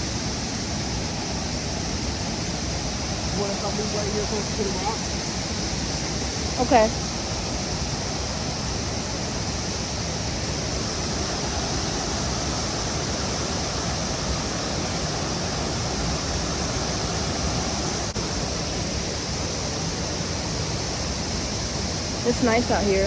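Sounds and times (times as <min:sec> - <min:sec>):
cicadas droning: 0:00.0 - 0:23.0
waterfall rushing: 0:00.0 - 0:23.0.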